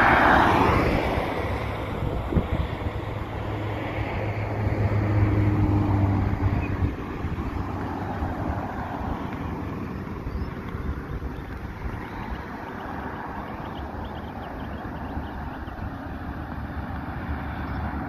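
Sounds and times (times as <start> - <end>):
road noise: 0.0 - 18.0
vehicle engine hum: 0.0 - 18.0
wind on microphone: 0.0 - 18.0.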